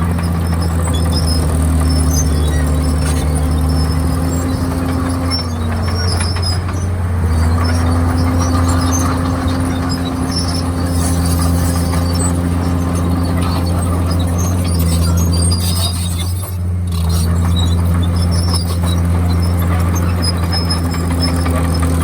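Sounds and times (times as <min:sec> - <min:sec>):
bulldozer diesel engine running: 0:00.0 - 0:22.0
squeaks and clinks of tracks: 0:00.0 - 0:22.0.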